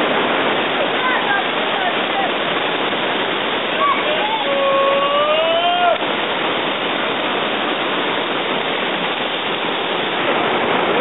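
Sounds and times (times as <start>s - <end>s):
river rapids rushing over rocks: 0.0s - 11.0s.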